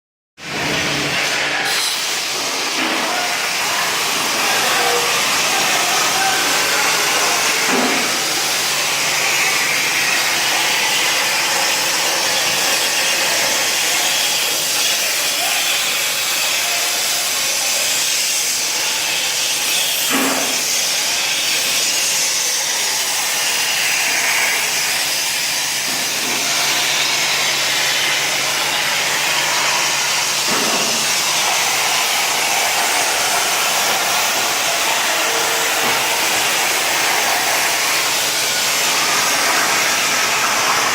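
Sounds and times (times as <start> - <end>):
plasma torch hissing: 0.6 - 40.9.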